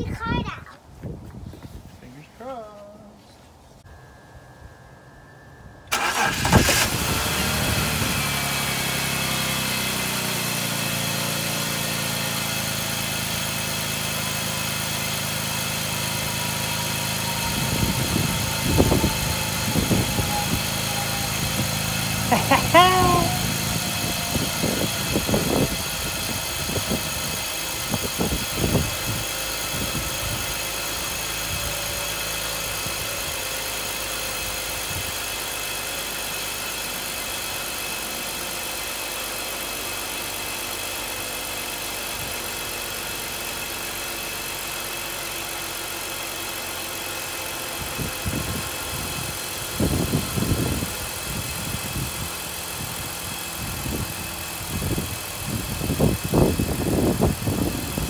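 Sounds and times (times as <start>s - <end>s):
car engine idling: 4.9s - 58.0s.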